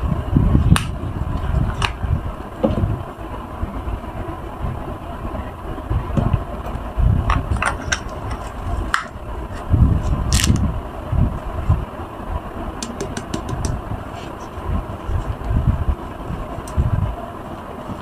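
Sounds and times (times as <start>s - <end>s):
uneven low rumble: 0.0s - 18.0s.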